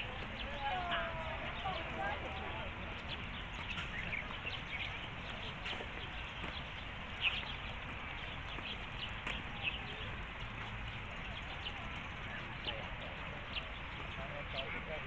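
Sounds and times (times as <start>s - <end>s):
low outdoor background noise: 0.0s - 15.0s
small birds chirping: 0.0s - 15.0s.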